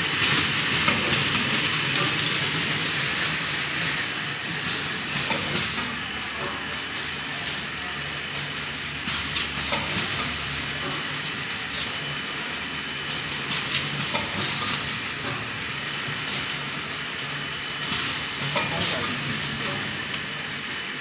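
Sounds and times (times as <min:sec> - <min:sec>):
packaging machine humming: 0:00.0 - 0:21.0.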